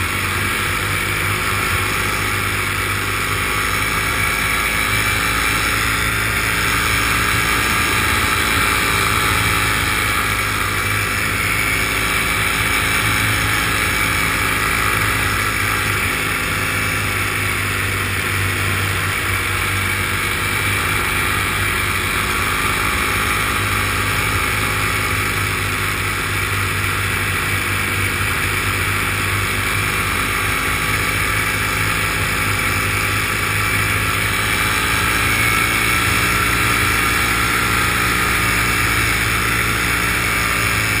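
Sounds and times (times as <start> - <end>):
small aircraft engine: 0.0 - 41.0.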